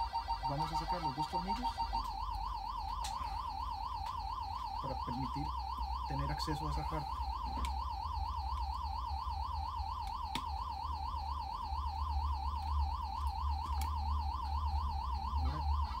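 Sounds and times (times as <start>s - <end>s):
electronic siren warbling: 0.0s - 16.0s.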